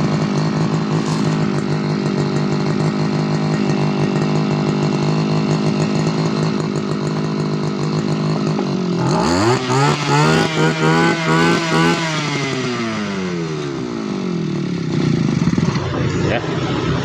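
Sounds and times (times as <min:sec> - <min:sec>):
brush cutter engine revving: 0:00.0 - 0:17.0.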